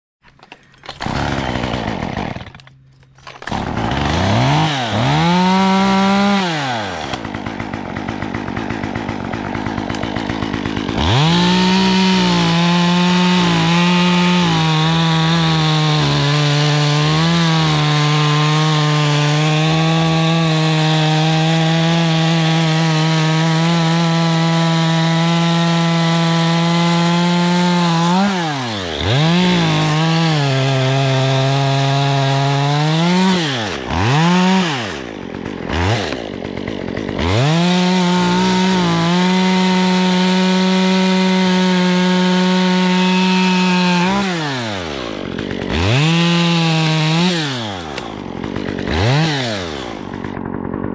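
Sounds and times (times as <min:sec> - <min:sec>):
chainsaw revving: 0:00.8 - 0:50.9.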